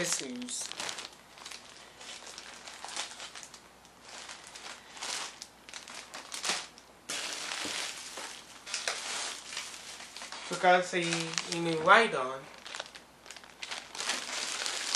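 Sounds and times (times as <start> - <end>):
plastic bag crinkling: 0.0 - 14.9.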